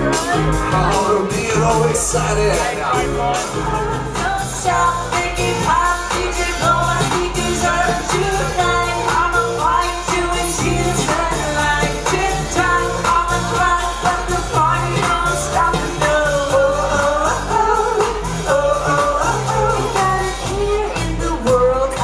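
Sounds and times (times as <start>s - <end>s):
live pop-rock band: 0.0s - 22.0s
woman singing: 0.0s - 22.0s.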